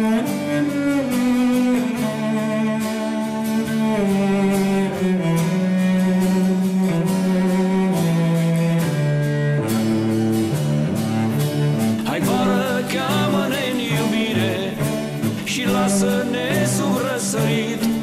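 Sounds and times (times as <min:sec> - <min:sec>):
cello playing slow melody: 0:00.0 - 0:18.0
strummed acoustic guitar: 0:00.0 - 0:18.0.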